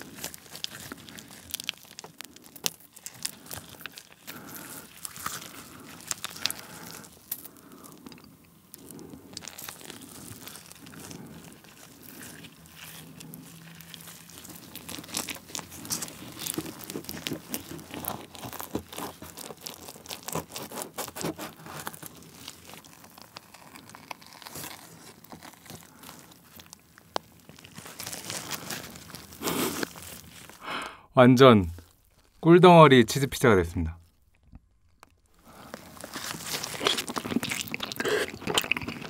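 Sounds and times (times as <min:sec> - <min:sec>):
sticky crackling of honeycomb wax: 0:00.0 - 0:30.6, 0:31.6 - 0:32.6, 0:33.2 - 0:39.0.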